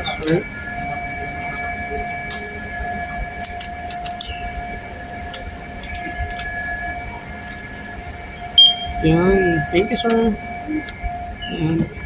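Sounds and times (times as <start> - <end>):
mechanical whine of held tones: 0.0 - 12.0.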